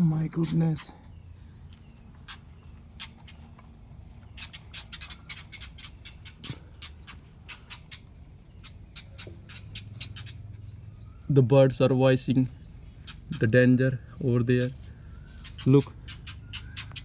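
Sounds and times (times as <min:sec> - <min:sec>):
small birds alarm calls: 0:00.0 - 0:17.0.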